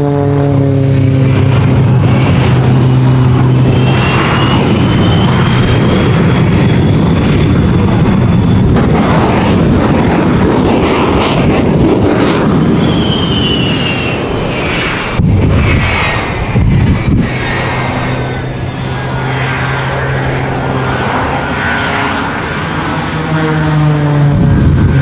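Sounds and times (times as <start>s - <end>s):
high gliding whine: 0.0s - 25.0s
jet engines roaring: 0.0s - 25.0s.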